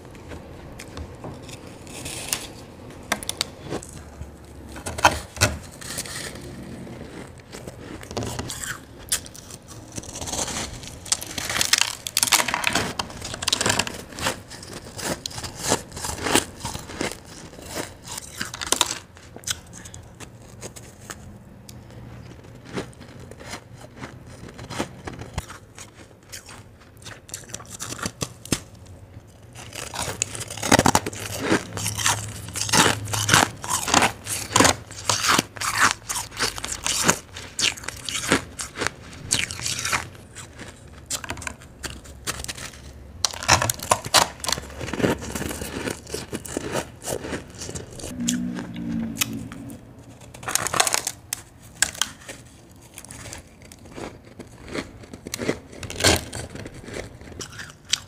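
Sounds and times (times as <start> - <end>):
shaved ice crunching when chewed: 0.1 - 58.0.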